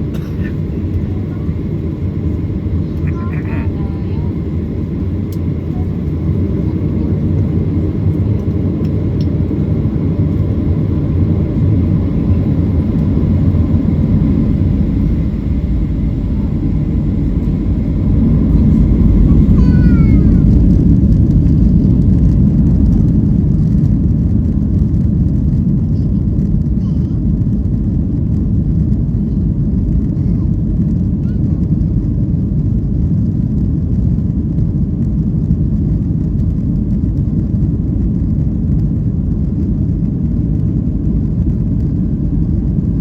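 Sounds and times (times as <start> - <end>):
jet engines and runway rumble: 0.0 - 43.0.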